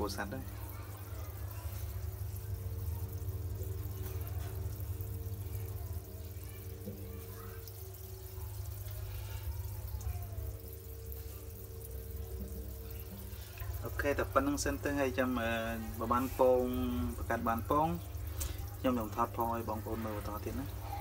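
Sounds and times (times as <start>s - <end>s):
pump humming: 0.0s - 21.0s
water bubbling in fish tank: 0.0s - 21.0s.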